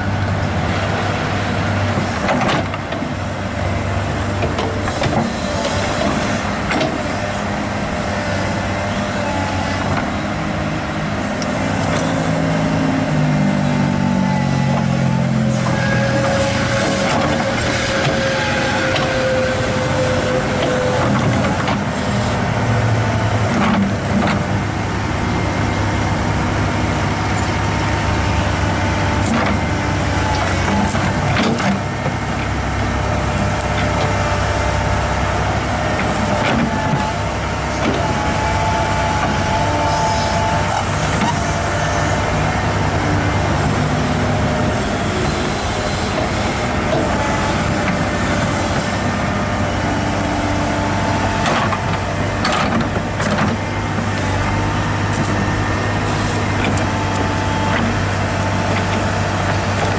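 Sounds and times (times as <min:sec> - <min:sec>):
diesel engine under load: 0:00.0 - 0:59.9
hydraulic whine: 0:01.8 - 0:59.9.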